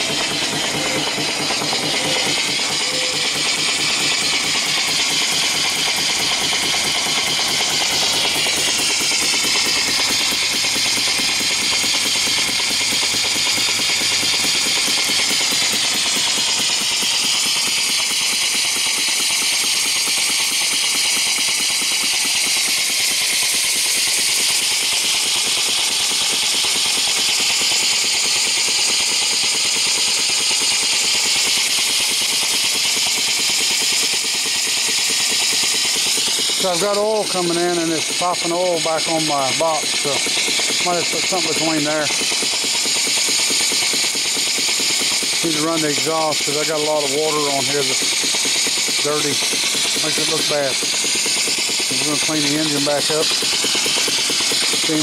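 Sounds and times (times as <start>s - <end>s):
steam engine exhaust chuffing: 0.0s - 55.0s.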